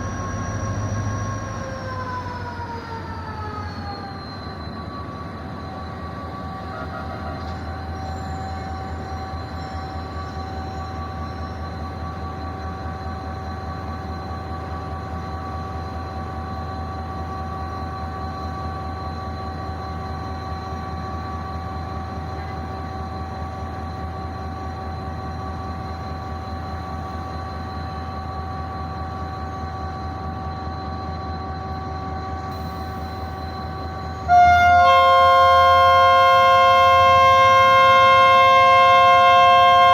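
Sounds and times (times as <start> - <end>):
train running with whining tones: 0.0 - 39.9.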